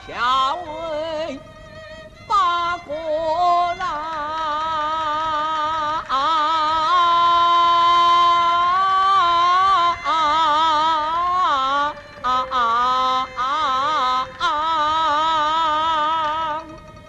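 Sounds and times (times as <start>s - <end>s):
opera singing with vibrato: 0.0s - 17.0s.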